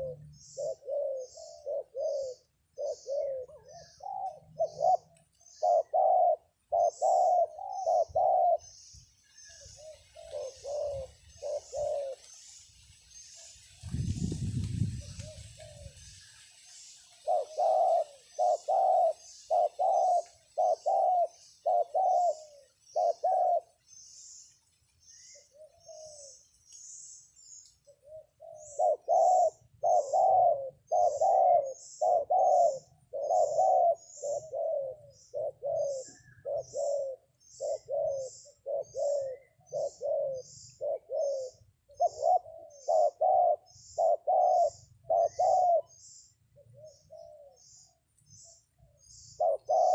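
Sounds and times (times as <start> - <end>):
dove cooing: 0.0 - 12.6, 13.3 - 24.4, 25.2 - 26.5, 27.8 - 49.9.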